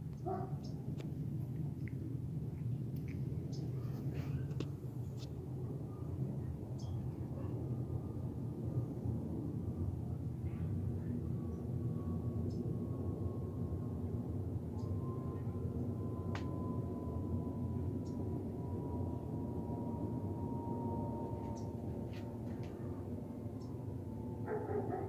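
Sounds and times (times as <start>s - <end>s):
airplane passing overhead: 0.0s - 25.0s
faint falling whine: 0.7s - 25.0s.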